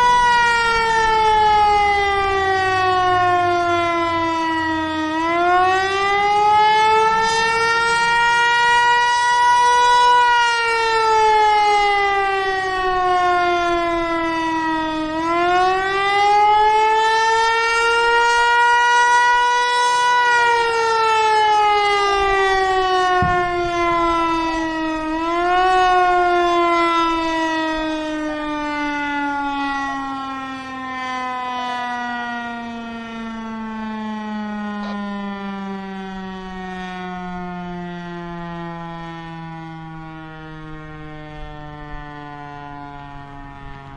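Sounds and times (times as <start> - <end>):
warning siren wailing: 0.0 - 43.9.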